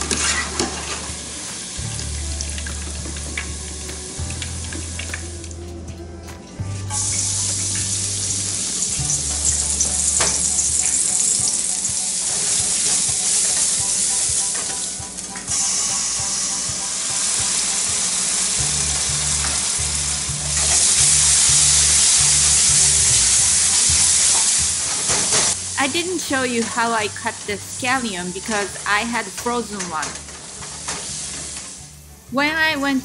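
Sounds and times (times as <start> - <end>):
stir fry sizzling in a pan: 0.0 - 5.6, 6.6 - 33.0.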